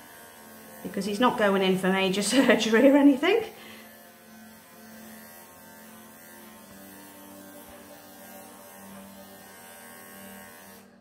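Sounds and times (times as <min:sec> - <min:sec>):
pet clippers humming: 0:00.0 - 0:11.0.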